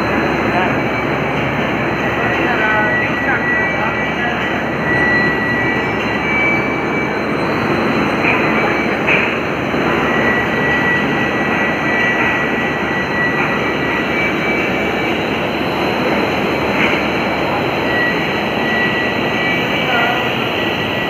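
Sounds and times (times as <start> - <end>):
faint high whine: 0.0 - 21.0
rollers and drives running: 0.0 - 21.0.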